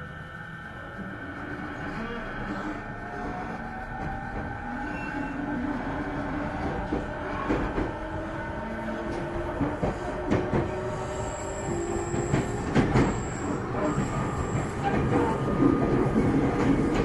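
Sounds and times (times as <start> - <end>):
train wheels rumbling on rail: 0.8 - 17.0.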